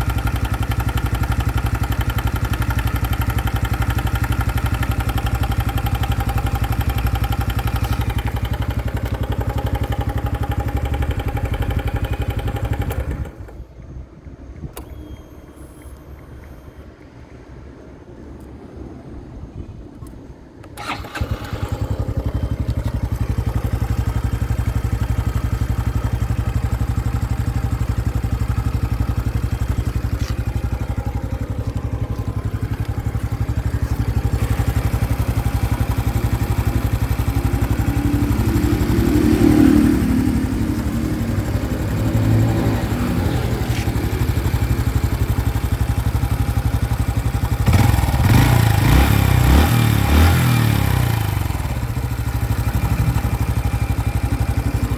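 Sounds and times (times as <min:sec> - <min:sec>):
motorcycle engine idling: 0:00.0 - 0:16.6, 0:20.1 - 0:54.9
engine clattering: 0:00.0 - 0:17.1, 0:20.6 - 0:54.9.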